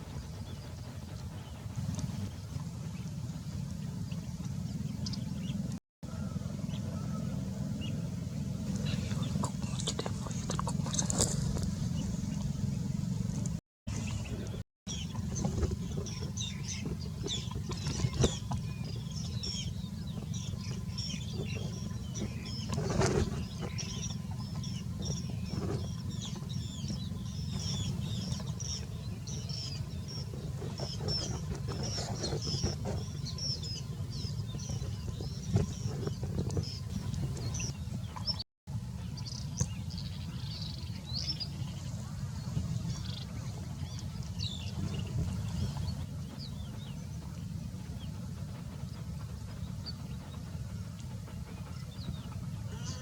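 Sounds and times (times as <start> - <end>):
steady low rumble: 0.0 - 53.0
small birds chirping: 7.8 - 38.4, 39.0 - 53.0.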